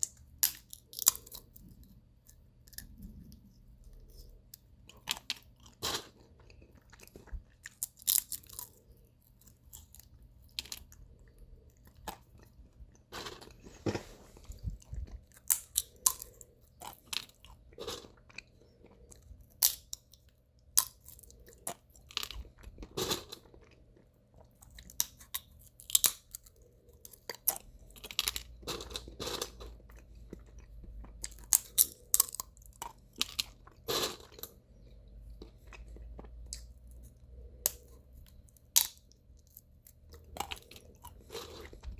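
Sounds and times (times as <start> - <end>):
seed husks cracking and chewing: 0.0 - 13.8, 14.4 - 41.9.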